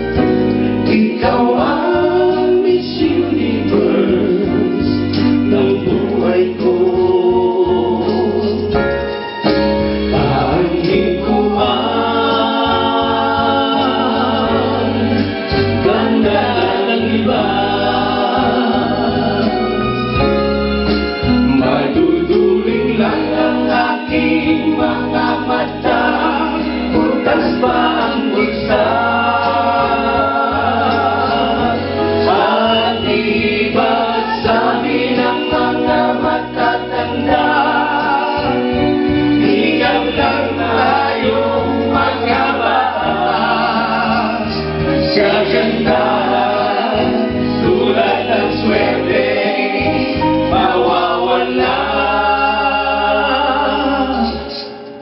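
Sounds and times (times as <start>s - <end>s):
bass accompaniment: 0.0s - 55.0s
group singing in harmony: 0.0s - 55.0s.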